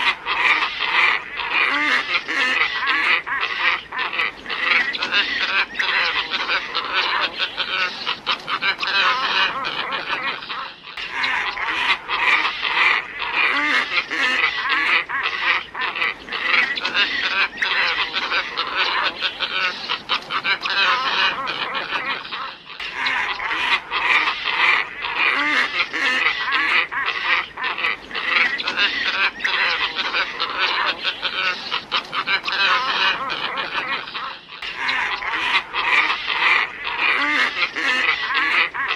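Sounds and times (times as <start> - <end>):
flock of ibis calling: 0.0 - 38.9.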